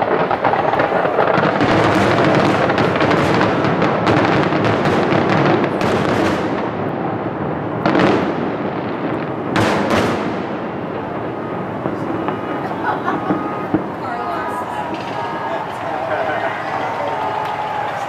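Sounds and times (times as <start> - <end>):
fireworks bangs and crackle: 0.0 - 18.0
rumble of fireworks: 0.0 - 18.0.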